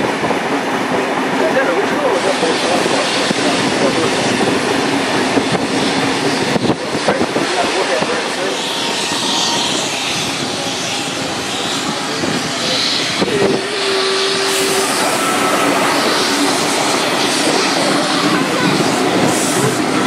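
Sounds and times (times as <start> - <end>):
train rushing rail noise: 0.0 - 20.0.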